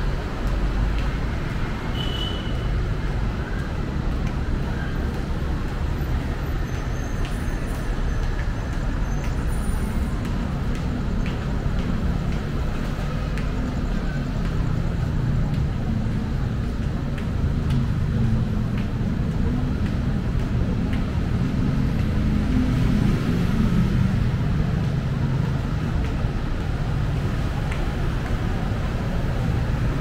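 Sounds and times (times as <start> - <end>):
city road traffic rumble: 0.0 - 30.0.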